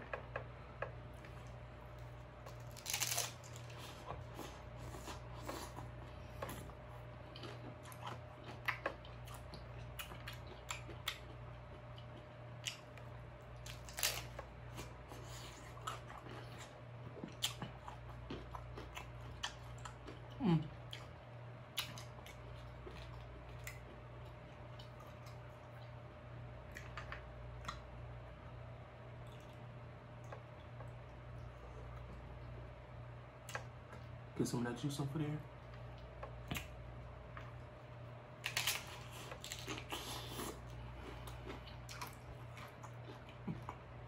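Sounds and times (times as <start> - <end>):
low steady hum: 0.0 - 44.0
crunchy food being chewed: 1.1 - 28.5, 29.1 - 32.6, 38.4 - 44.0.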